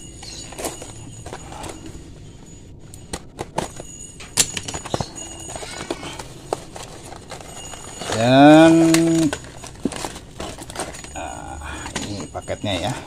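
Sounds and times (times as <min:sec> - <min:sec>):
paper wrapping rustling: 0:00.0 - 0:02.2, 0:03.0 - 0:13.0.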